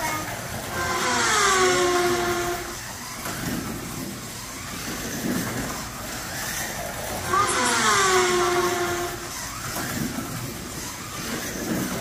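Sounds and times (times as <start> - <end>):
slot car motor whining: 0.0 - 12.0
slot car rumbling on track: 0.0 - 12.0.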